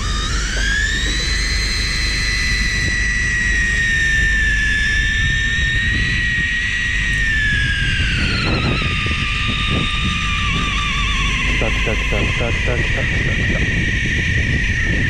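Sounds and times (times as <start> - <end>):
fishing reel motor whining: 0.0 - 15.0
low rumble of boat and sea: 0.0 - 15.0.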